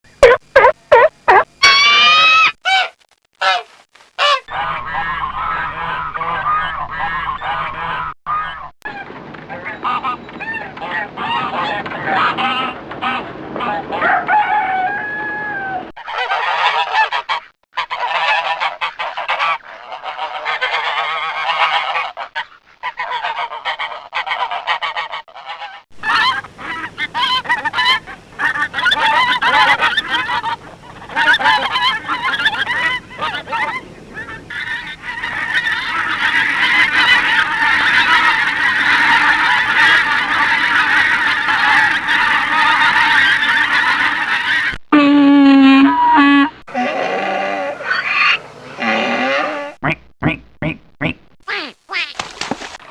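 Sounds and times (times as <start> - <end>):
waterfowl honking: 0.2 - 49.7, 51.5 - 52.9.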